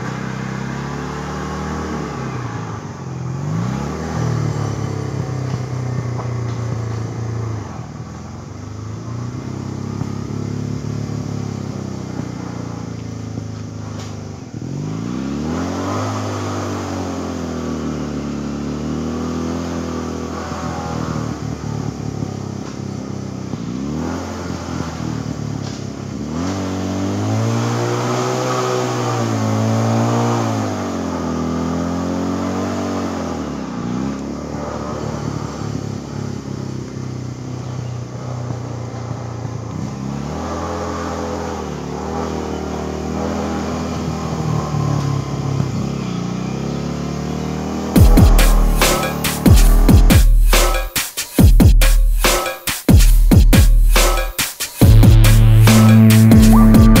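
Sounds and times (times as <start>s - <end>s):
atv engine revving: 0.0s - 50.3s, 54.8s - 57.0s.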